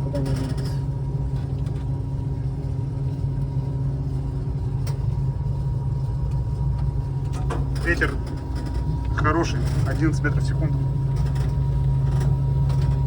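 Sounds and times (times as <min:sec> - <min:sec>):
crane hoist humming and whining: 0:00.0 - 0:13.0.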